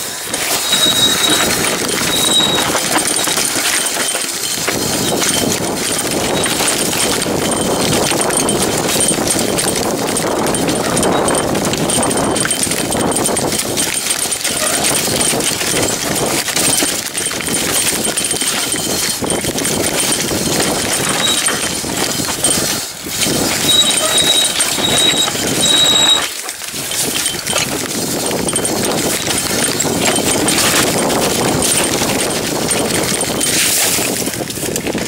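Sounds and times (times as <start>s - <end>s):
bike frame and chain rattling: 0.0s - 35.0s
tyres crunching over stones: 0.0s - 35.0s.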